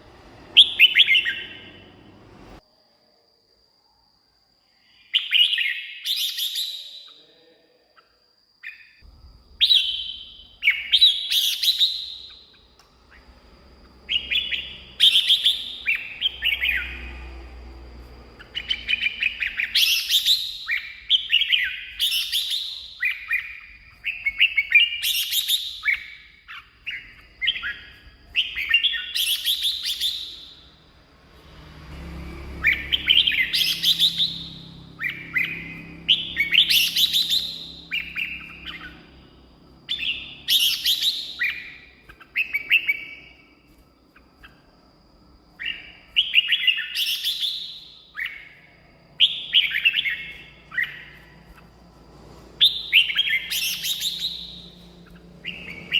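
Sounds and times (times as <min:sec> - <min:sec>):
bird singing warbled phrases: 0:00.2 - 0:02.2, 0:04.8 - 0:30.9, 0:32.2 - 0:44.9, 0:45.5 - 0:51.9, 0:52.6 - 0:55.9.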